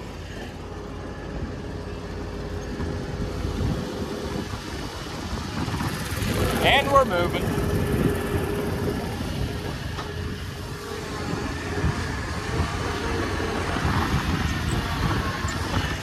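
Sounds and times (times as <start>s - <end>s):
diesel loader engine: 0.0s - 16.0s
lawnmower engine running: 0.0s - 16.0s.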